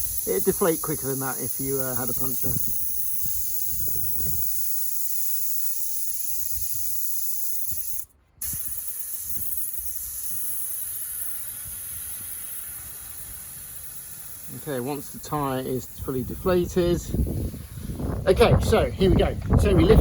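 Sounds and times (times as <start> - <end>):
air hissing out of tyre: 0.0 - 18.2.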